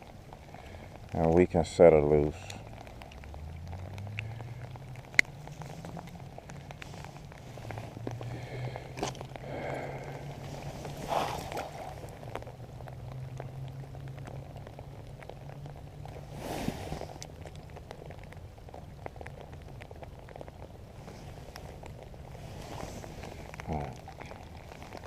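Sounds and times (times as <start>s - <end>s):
rain falling: 0.0s - 25.0s
rustling: 2.3s - 13.4s, 16.0s - 25.0s.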